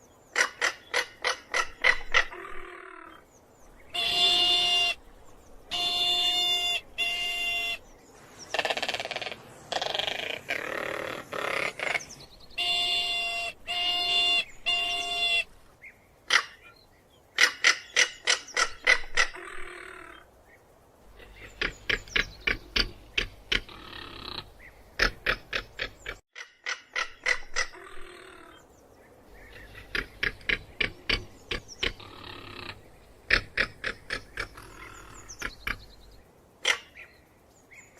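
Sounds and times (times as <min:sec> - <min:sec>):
bird harsh rasping calls: 0:00.3 - 0:03.2, 0:03.8 - 0:05.0, 0:05.7 - 0:07.8, 0:08.4 - 0:15.5, 0:17.4 - 0:20.2, 0:21.1 - 0:28.6, 0:29.3 - 0:37.2.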